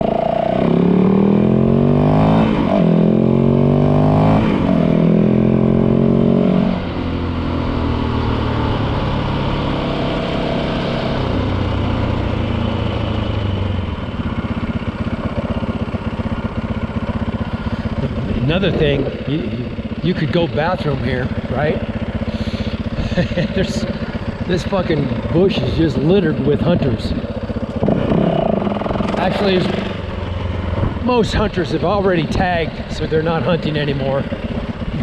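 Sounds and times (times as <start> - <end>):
dirt bike engine accelerating: 0.0 - 35.0.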